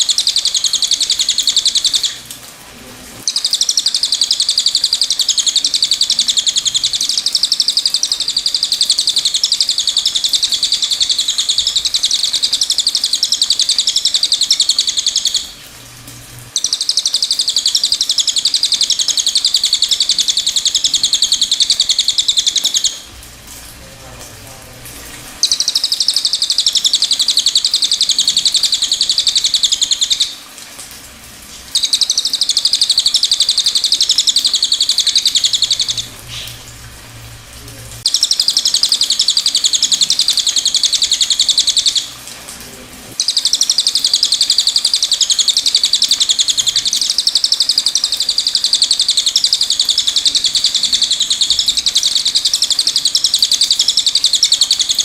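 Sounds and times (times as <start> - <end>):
bird trilling: 0.0 - 2.2, 3.3 - 15.6, 16.5 - 23.1, 25.4 - 30.4, 31.7 - 36.6, 38.1 - 42.1, 43.2 - 55.0.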